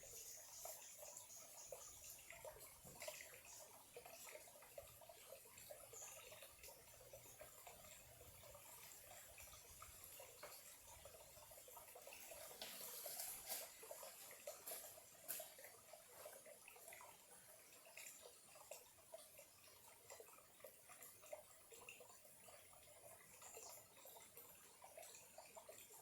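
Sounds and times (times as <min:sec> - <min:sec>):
stream trickling and gurgling: 0:00.0 - 0:26.0
water splashes and drips: 0:00.0 - 0:26.0.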